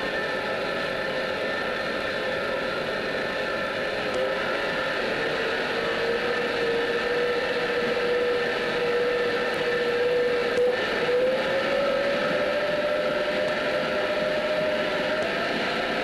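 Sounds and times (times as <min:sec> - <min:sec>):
gearbox whine: 0:00.0 - 0:16.0.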